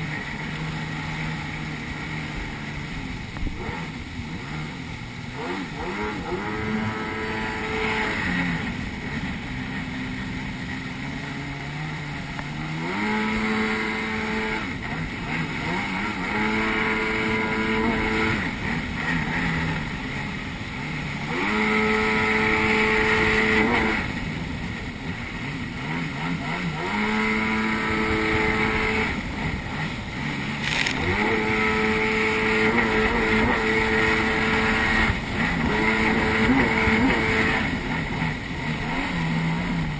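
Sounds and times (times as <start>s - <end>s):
jet ski engine revving: 0.0s - 39.9s
water and spray rushing: 0.0s - 39.9s.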